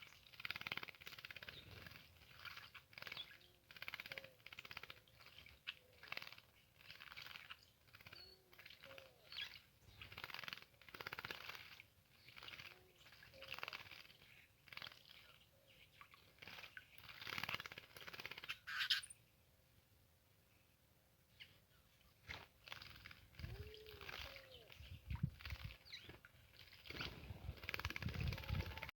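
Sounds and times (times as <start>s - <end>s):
bird chirps: 0.0s - 17.4s, 18.2s - 19.3s, 22.7s - 28.9s
birds splashing in water: 0.1s - 18.9s, 22.2s - 28.9s.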